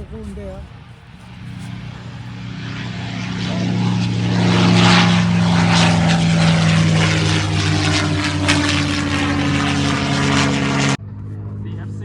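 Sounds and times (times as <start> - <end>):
aircraft flying low overhead: 0.0 - 12.0.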